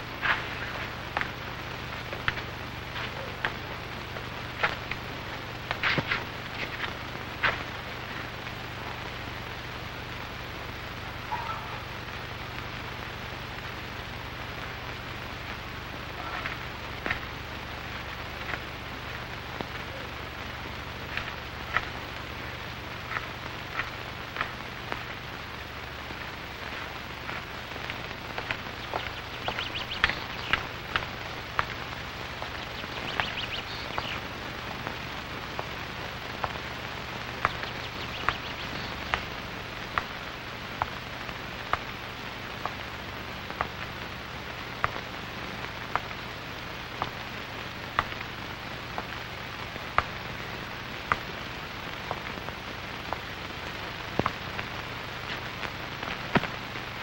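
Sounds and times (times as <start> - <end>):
film soundtrack hiss: 0.0 - 57.0.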